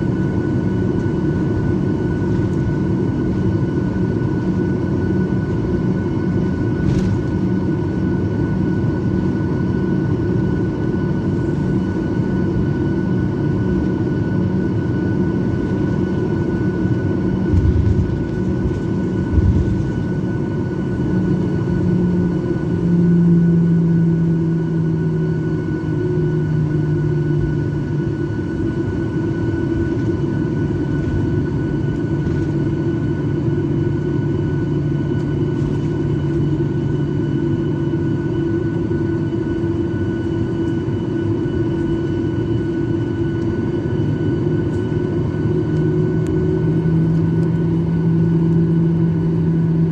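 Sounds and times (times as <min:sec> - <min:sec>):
airliner engines droning in cabin: 0:00.0 - 0:49.9.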